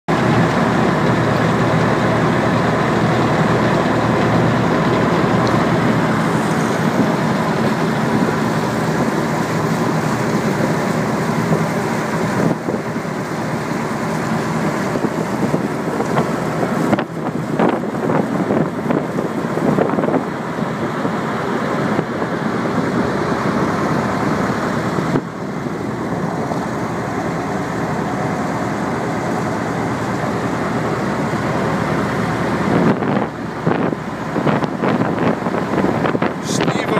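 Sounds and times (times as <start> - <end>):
boat motor running: 0.1 - 36.9
water rushing in wake: 0.1 - 36.9.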